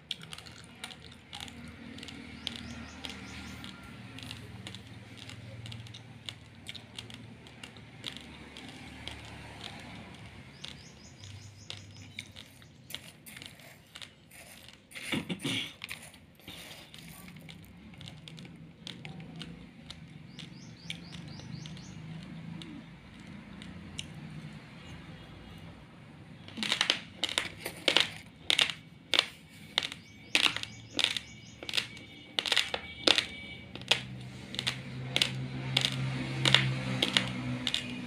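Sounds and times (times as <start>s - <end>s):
rice rattling against spoon: 0.1s - 15.1s, 15.8s - 23.6s, 26.5s - 38.0s.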